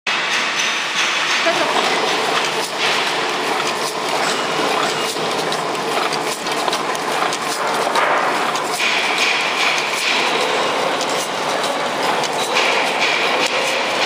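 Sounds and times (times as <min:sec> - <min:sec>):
machine clattering: 0:00.1 - 0:14.0.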